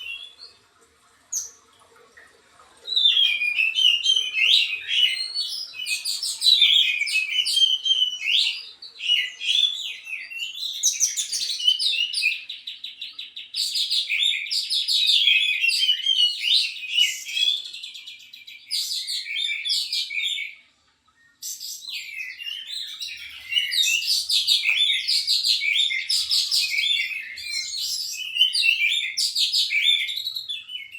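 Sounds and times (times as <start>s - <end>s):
bird singing varied song: 0.0s - 0.7s, 2.8s - 30.9s.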